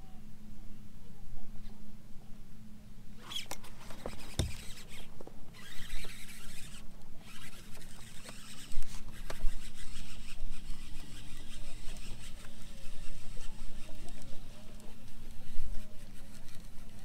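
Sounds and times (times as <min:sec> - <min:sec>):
fishing reel whirring: 0:03.2 - 0:17.0.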